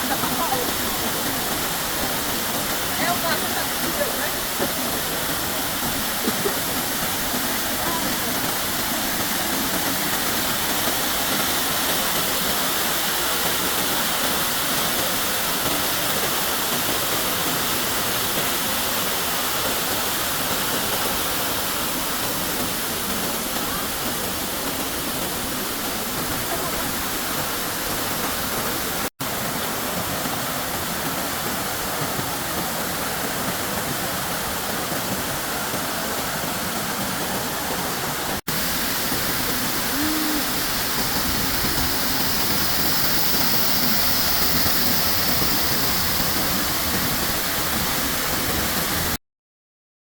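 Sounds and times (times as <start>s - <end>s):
waterfall pouring: 0.0s - 49.2s.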